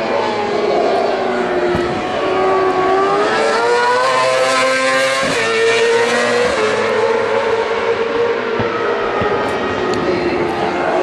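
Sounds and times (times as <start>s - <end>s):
motorcycle engine revving high: 0.0s - 11.0s.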